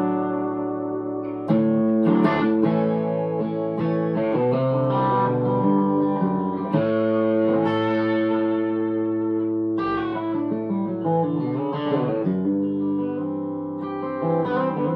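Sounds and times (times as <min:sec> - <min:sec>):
electric guitar chords strummed: 0:00.0 - 0:14.9.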